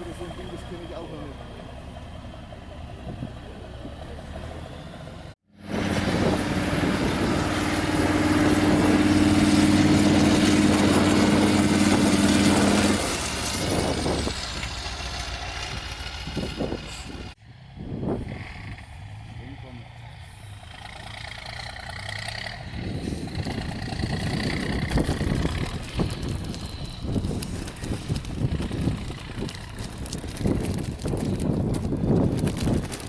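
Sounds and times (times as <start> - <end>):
diesel truck engine revving: 0.0 - 31.1.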